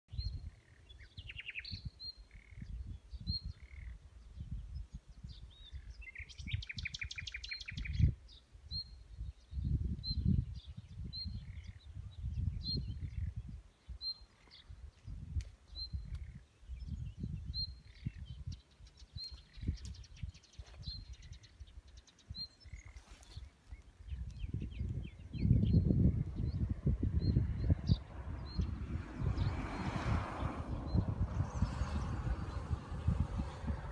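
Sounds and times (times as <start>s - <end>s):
songbirds calling: 0.1s - 33.9s
wind on microphone: 0.1s - 33.9s.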